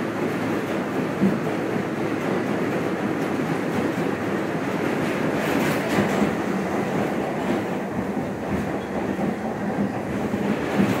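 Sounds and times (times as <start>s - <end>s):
rail clatter clicks: 0.0s - 11.0s
subway wheels rumbling on track: 0.0s - 11.0s.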